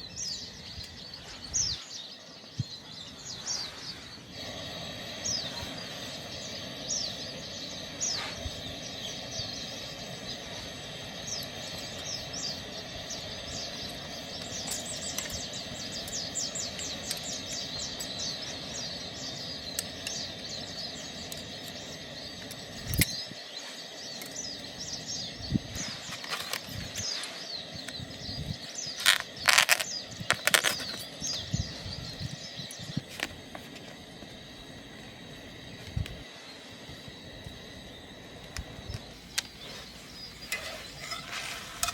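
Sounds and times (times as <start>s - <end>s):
low outdoor background: 0.0s - 41.9s
small birds chirping: 0.0s - 41.9s.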